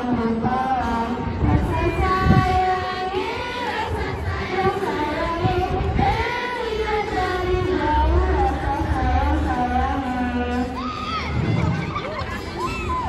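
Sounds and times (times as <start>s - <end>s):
young voices singing together: 0.0s - 13.0s.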